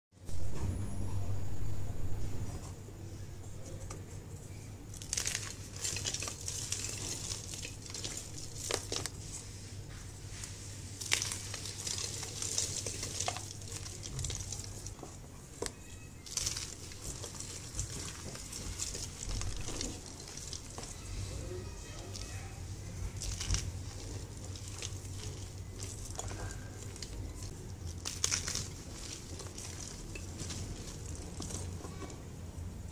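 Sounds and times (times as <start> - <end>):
steady low hum: 0.2 - 32.9
chalk crunching and crumbling: 4.9 - 32.3.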